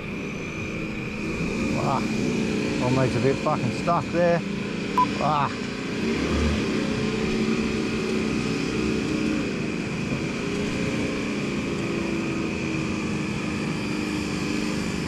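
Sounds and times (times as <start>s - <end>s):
motor drone: 0.0s - 15.0s.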